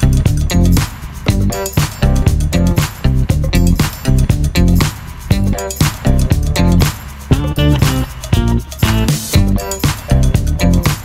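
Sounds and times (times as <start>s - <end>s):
funk music with bass and guitar: 0.0s - 11.0s.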